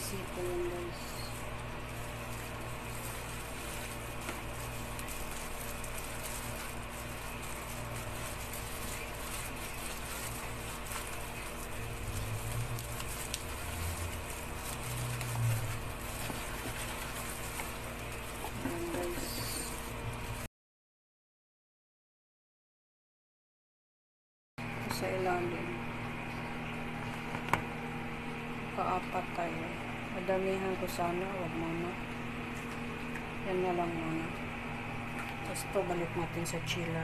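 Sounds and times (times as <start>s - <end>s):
steady low hum: 0.0s - 20.5s, 24.6s - 37.0s.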